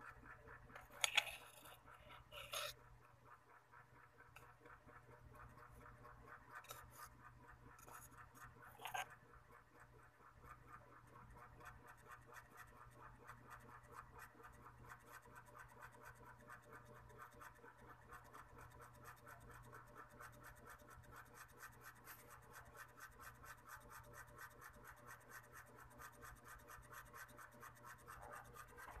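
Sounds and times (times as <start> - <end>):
faint rapid scratching: 0.0 - 29.0
steady low hum: 0.0 - 29.0.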